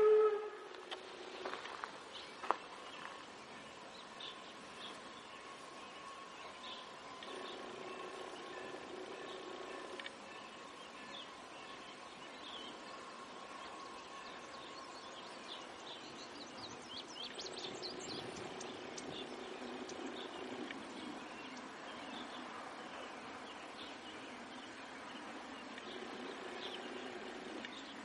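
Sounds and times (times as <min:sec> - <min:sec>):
birds chirping: 0:00.0 - 0:28.0
faint outdoor noise: 0:00.0 - 0:28.0.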